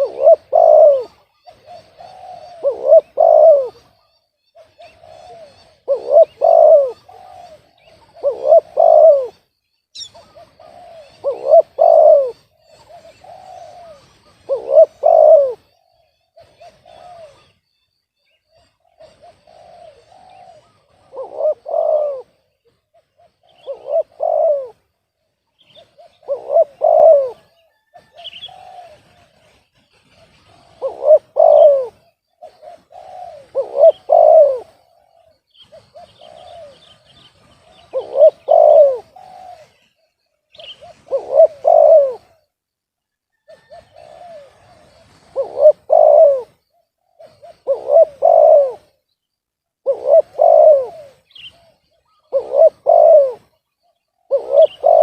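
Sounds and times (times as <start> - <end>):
dove cooing: 0.0 - 42.6, 43.3 - 49.1, 49.8 - 55.0
small birds chirping: 0.0 - 55.0.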